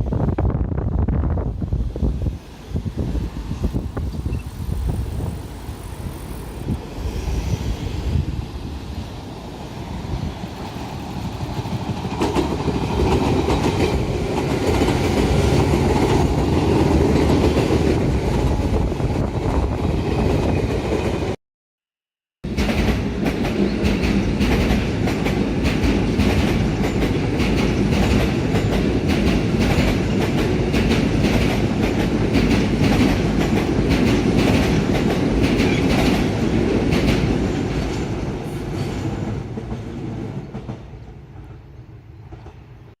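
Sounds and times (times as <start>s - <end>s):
train passing: 0.0s - 21.4s, 22.5s - 42.9s.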